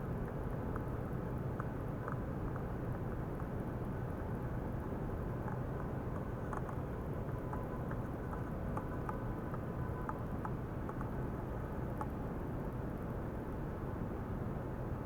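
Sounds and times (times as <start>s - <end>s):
faint ticks and crackles: 0.0s - 15.0s.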